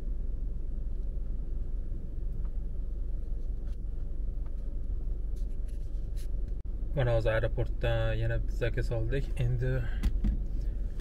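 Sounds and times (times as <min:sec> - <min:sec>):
car engine rumble: 0:00.0 - 0:11.0
road noise inside car: 0:00.0 - 0:11.0.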